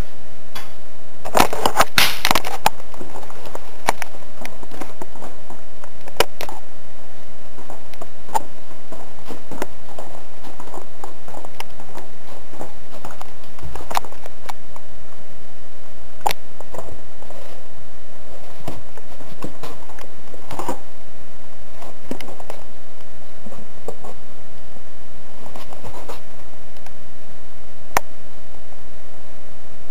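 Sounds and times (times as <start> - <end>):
steady mid-pitched hum: 0.0 - 29.9.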